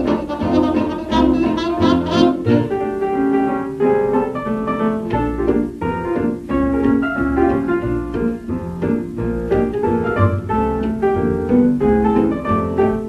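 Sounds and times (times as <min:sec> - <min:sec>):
jazz dance orchestra on record: 0:00.0 - 0:13.0
piano: 0:00.0 - 0:13.0.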